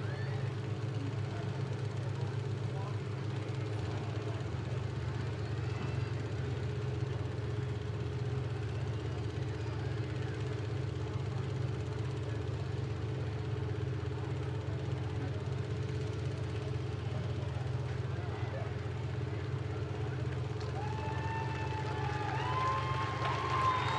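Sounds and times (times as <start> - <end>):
car engines droning: 0.0 - 23.9.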